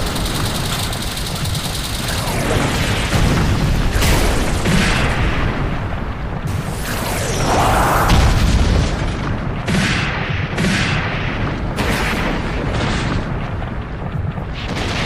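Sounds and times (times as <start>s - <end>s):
deep rumble of booms: 0.0s - 15.0s.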